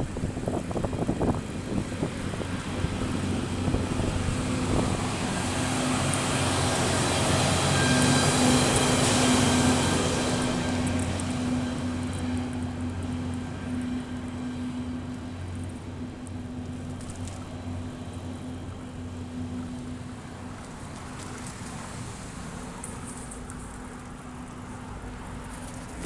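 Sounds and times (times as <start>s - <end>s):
road and wind noise: 0.0s - 26.0s
vehicle humming: 0.0s - 26.0s.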